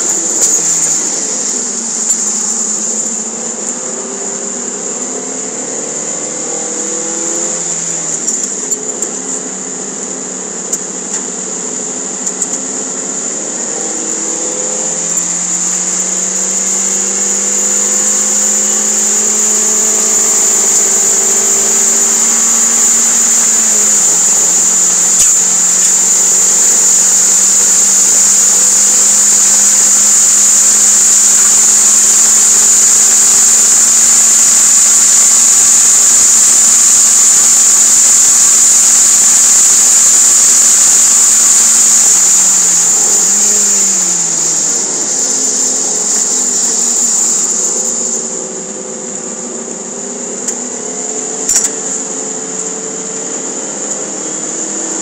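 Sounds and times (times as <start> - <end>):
steady high hiss: 0.0 - 55.0.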